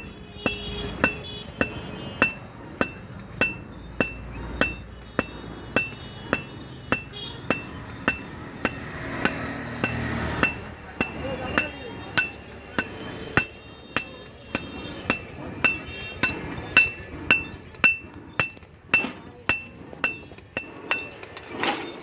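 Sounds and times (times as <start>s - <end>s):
hammer striking metal on anvil: 0.0s - 21.6s.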